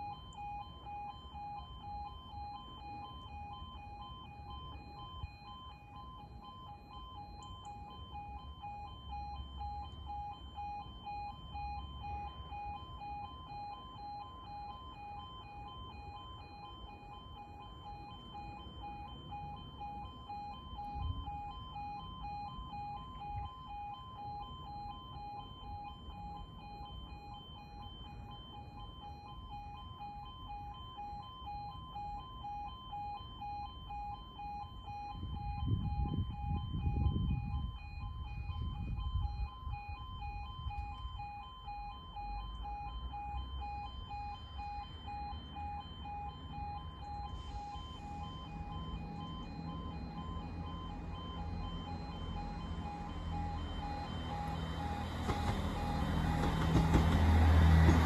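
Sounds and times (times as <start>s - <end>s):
level crossing two-tone alarm: 0.0s - 58.0s.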